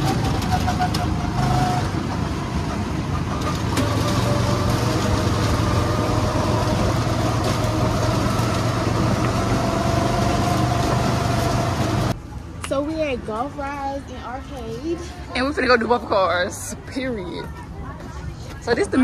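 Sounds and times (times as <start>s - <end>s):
road and wind noise: 0.0s - 19.0s
vehicle engine hum: 0.0s - 19.0s.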